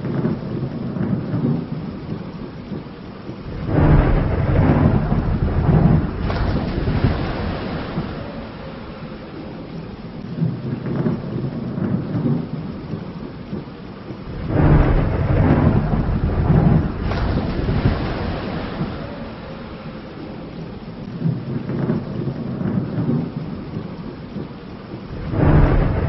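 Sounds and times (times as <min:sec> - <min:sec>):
rain hiss: 0:00.0 - 0:26.0
rolling thunder: 0:00.0 - 0:26.0.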